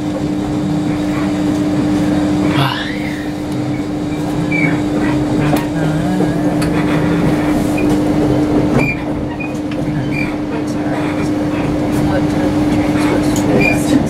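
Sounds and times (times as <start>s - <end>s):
train cabin hum and rumble: 0.0s - 14.0s.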